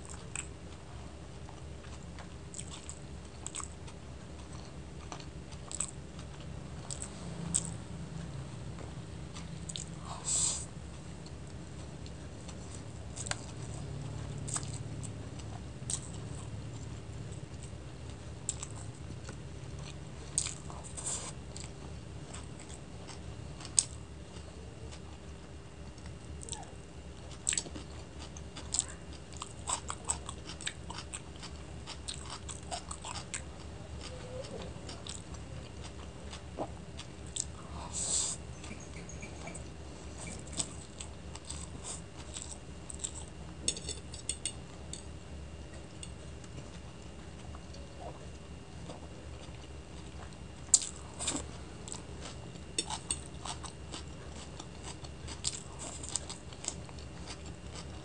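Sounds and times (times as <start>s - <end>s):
person chewing noodles: 0.0s - 58.0s.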